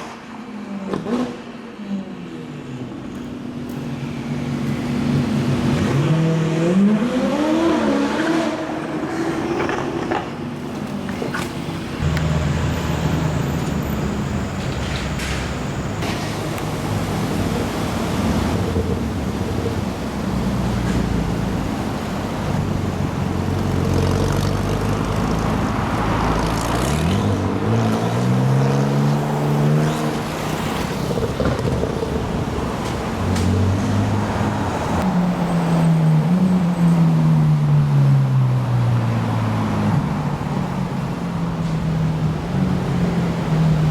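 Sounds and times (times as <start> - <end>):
sports car engines revving: 3.3 - 43.9.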